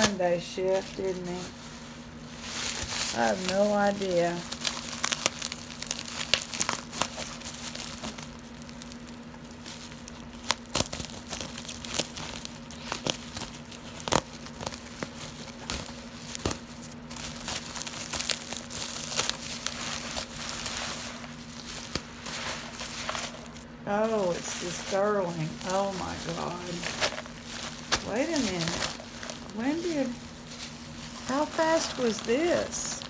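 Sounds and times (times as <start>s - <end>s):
packing material crinkling: 0.0s - 33.0s
steady low hum: 0.0s - 33.0s.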